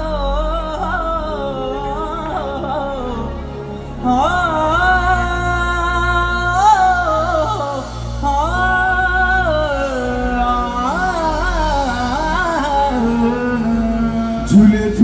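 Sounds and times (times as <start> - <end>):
low bass backing: 0.0 - 15.0.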